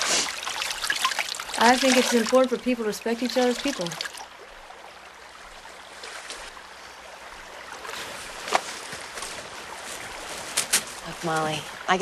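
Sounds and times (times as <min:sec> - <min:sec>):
soft outdoor hiss: 0:00.0 - 0:12.0
water trickling and dripping: 0:00.0 - 0:12.0.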